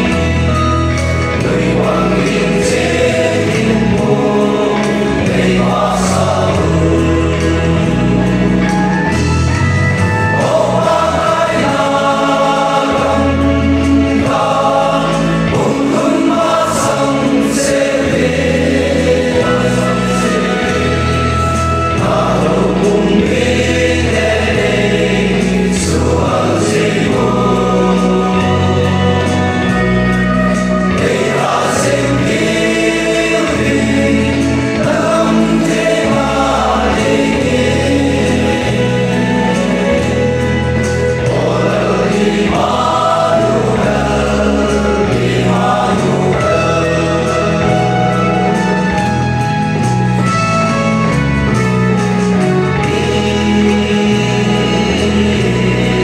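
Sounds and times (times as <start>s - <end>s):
male choir singing gospel: 0.0s - 56.0s.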